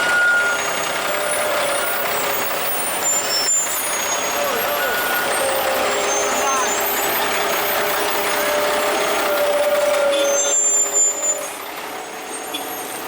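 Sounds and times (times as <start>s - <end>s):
heavy truck running: 0.0s - 13.0s.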